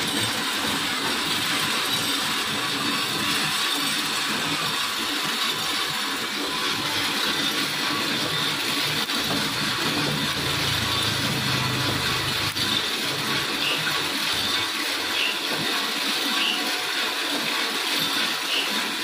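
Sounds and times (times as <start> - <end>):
blower and motors running: 0.0 - 19.0
coffee beans pouring and rattling: 0.0 - 19.0.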